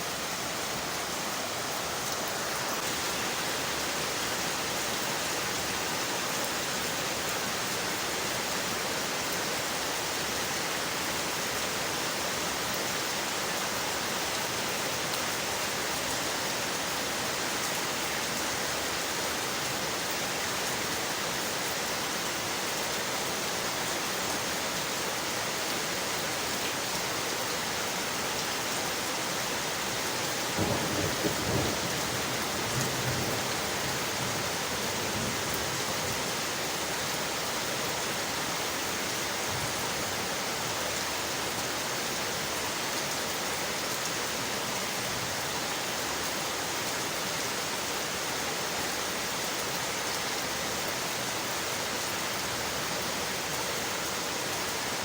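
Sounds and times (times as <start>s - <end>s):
rain on windowpanes: 0.0s - 55.0s.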